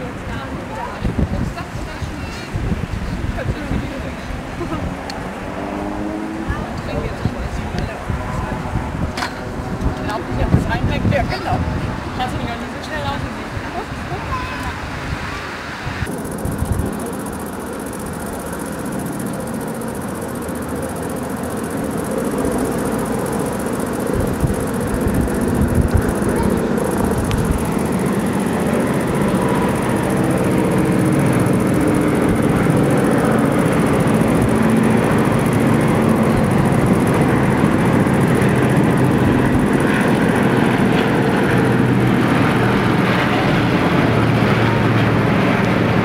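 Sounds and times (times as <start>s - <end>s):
propeller airliners droning overhead: 0.0s - 46.0s.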